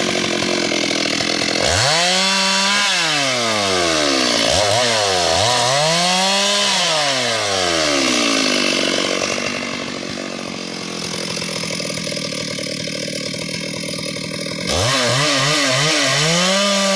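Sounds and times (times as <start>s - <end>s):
chainsaw revving: 0.0s - 16.9s.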